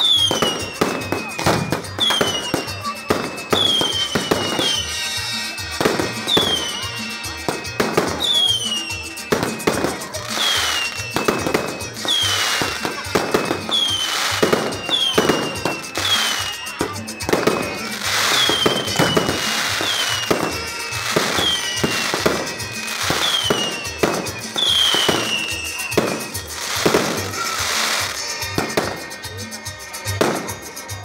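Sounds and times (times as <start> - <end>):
fireworks bangs: 0.0 - 31.0
fireworks crackling: 0.0 - 31.0
fireworks whistling: 0.0 - 31.0.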